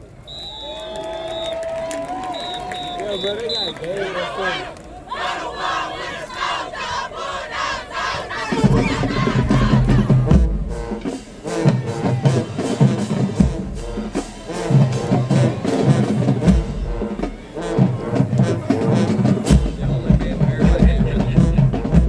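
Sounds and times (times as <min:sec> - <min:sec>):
marching band brass: 0:00.0 - 0:22.0
drumline beating: 0:01.6 - 0:22.0.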